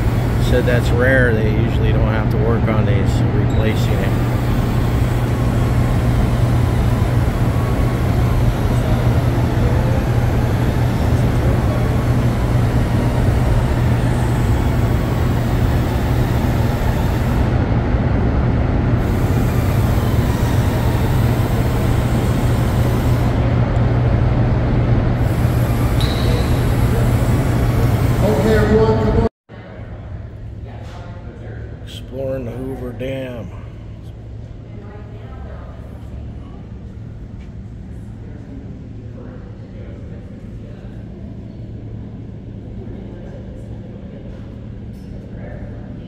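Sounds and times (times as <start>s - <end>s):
turbine generators humming: 0.0s - 46.0s.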